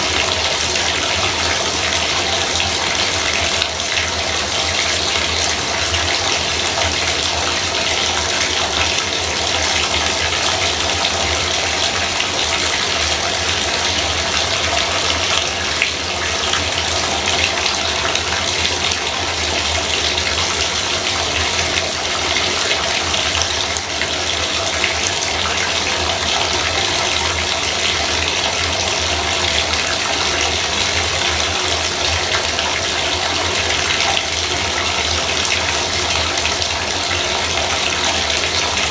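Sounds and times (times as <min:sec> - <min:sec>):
water pouring into bathtub: 0:00.0 - 0:38.9.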